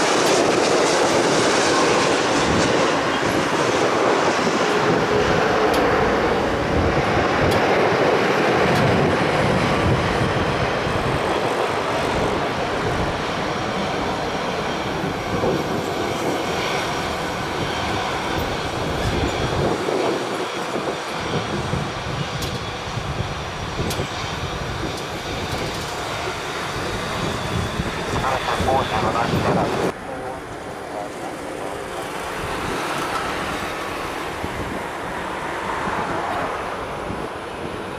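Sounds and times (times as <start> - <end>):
jet engine roar on landing: 0.0 - 37.9.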